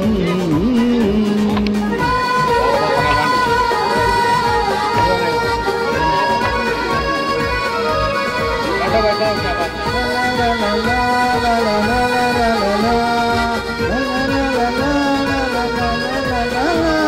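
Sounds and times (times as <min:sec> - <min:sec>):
music with sliding held notes: 0:00.0 - 0:17.0
steady beat: 0:00.0 - 0:17.0.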